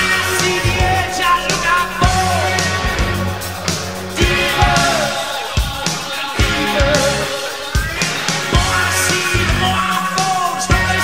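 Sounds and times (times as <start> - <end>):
pop-rock song with singing: 0.0 - 11.0
steady drum beat: 0.0 - 11.0.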